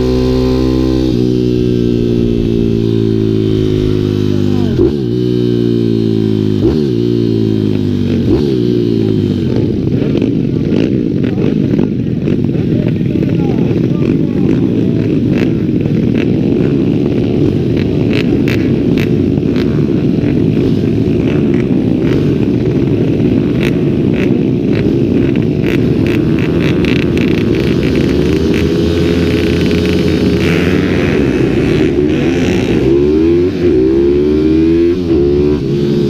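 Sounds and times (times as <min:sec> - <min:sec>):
loud single-cylinder engine: 0:00.0 - 0:36.0
motorbike engines running: 0:00.0 - 0:36.0.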